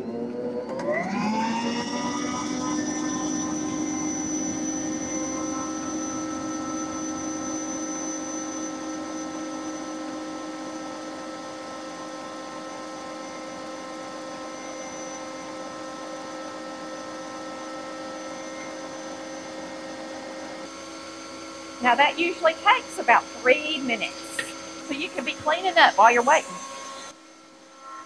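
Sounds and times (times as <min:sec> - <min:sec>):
stand mixer motor whining: 0:00.0 - 0:27.2.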